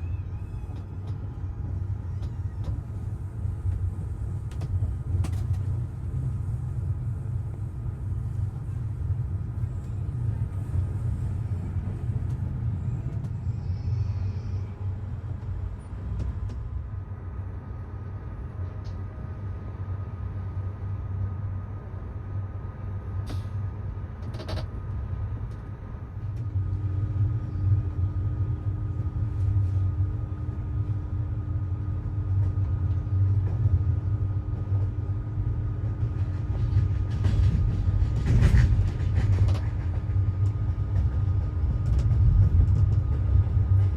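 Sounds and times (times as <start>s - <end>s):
train rumbling: 0.0s - 43.9s.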